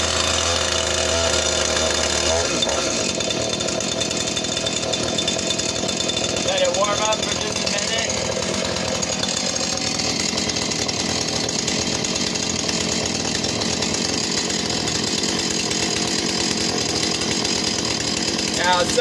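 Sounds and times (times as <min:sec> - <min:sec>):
chainsaw engine running: 0:00.0 - 0:19.0.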